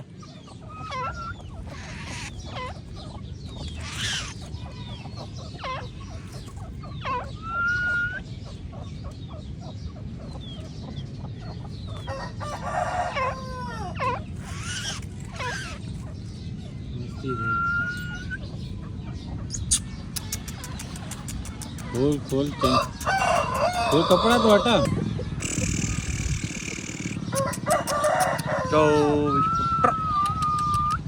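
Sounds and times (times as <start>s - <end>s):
bird harsh grating calls: 0.0s - 31.0s.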